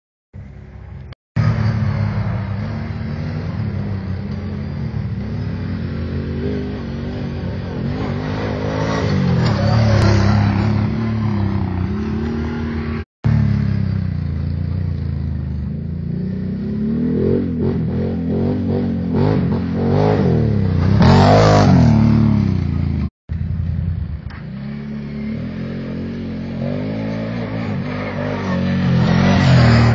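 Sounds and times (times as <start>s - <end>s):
quad engine revving: 1.4s - 13.6s, 15.8s - 22.8s, 24.4s - 29.9s.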